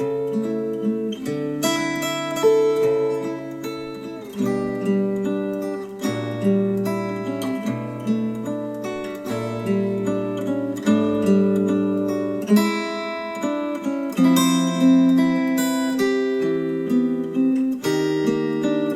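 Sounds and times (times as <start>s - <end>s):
acoustic guitar music: 0.0s - 18.9s.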